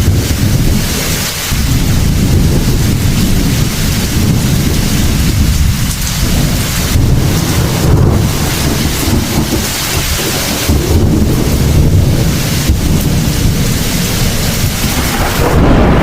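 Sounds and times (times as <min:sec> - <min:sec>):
heavy rain: 0:00.0 - 0:16.0
low rolling thunder: 0:00.0 - 0:16.0.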